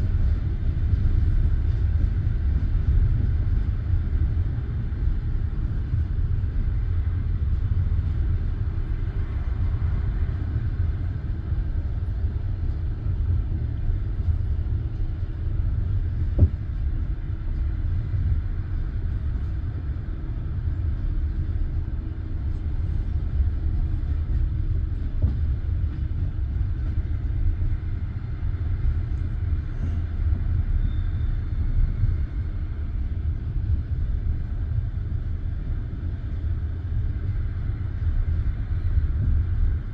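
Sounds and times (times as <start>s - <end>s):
train carriage rumbling on track: 0.0s - 39.9s.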